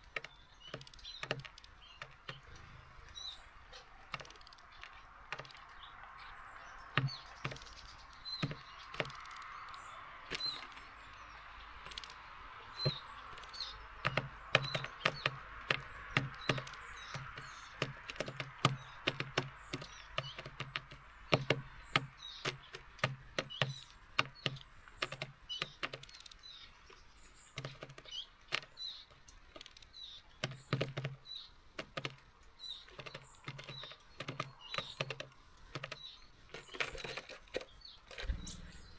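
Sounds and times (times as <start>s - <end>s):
bird pecking at feeder: 0.0s - 38.9s
small birds chirping: 0.0s - 38.9s.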